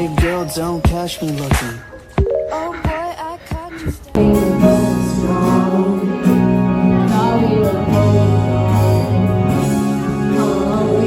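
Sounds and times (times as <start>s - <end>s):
background pop music: 0.0s - 11.0s.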